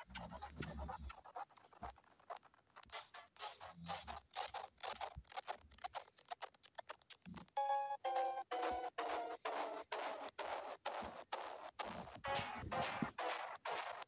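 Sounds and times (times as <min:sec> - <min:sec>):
scratchy crackles and noise bursts: 0:00.0 - 0:14.0.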